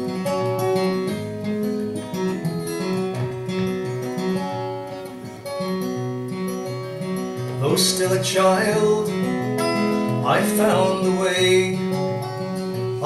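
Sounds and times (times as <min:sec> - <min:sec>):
acoustic guitar picking and strumming: 0:00.0 - 0:13.0.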